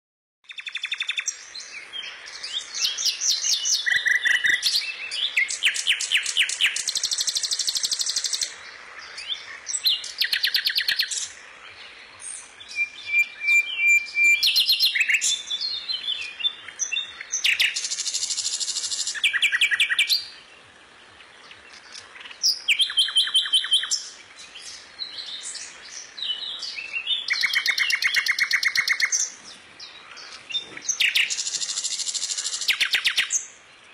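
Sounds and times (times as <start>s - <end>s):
songbirds chirping and trilling: 0.4s - 33.9s.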